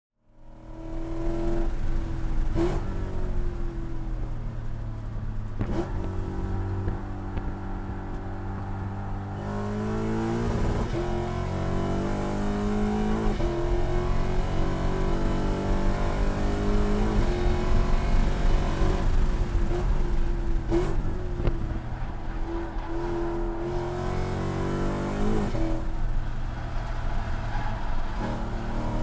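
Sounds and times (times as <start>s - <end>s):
car engine revving: 0.4s - 29.0s.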